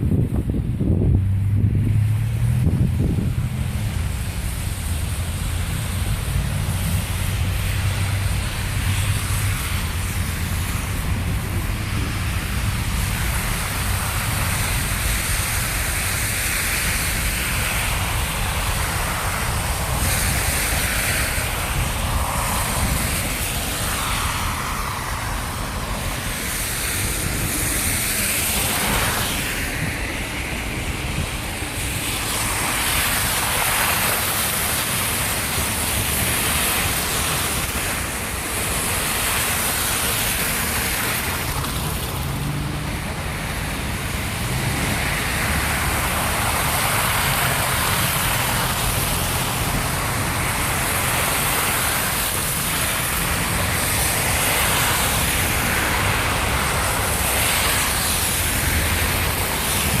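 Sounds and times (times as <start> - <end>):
blizzard wind gusting: 0.0 - 60.0.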